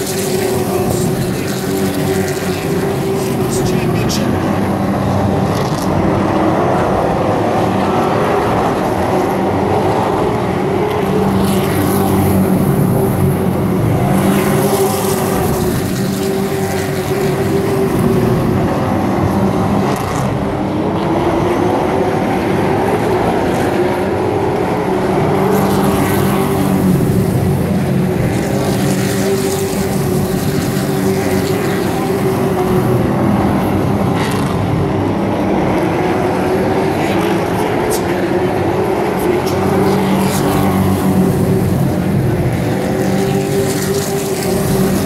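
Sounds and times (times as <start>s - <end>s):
race truck engines droning: 0.0s - 45.0s.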